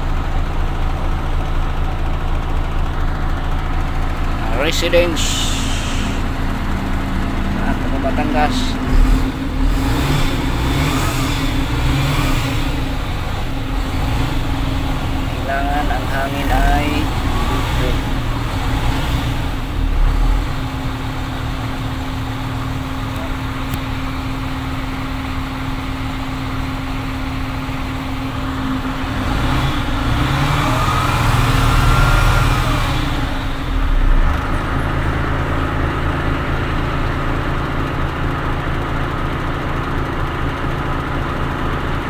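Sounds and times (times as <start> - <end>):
diesel truck engine revving: 0.0 - 42.0.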